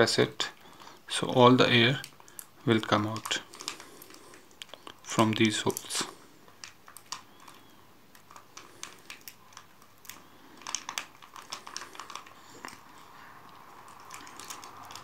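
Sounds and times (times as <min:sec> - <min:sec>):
battery pouch crinkling and clicking: 0:01.9 - 0:15.0.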